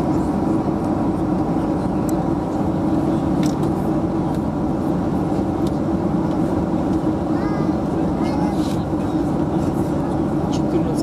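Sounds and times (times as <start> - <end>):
airliner cabin engine drone: 0.0 - 11.0.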